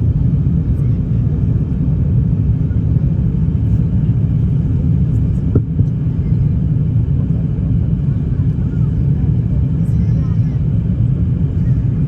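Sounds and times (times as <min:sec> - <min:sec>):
airliner low rumble: 0:00.0 - 0:12.0.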